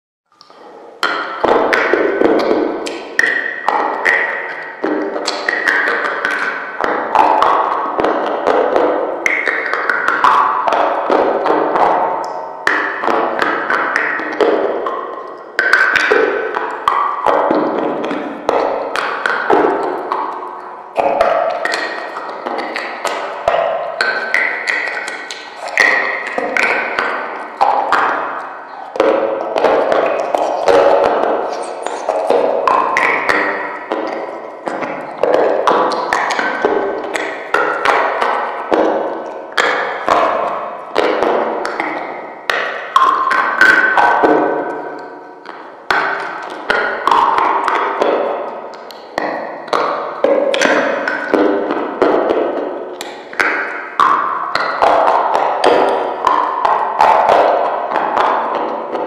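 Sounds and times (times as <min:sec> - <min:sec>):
music: 0:00.3 - 0:59.0.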